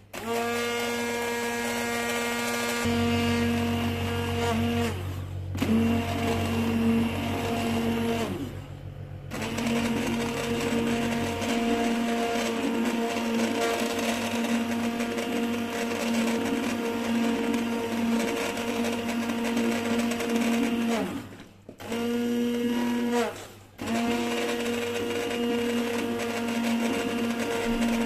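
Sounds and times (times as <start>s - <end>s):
immersion blender motor running: 0.0s - 28.0s.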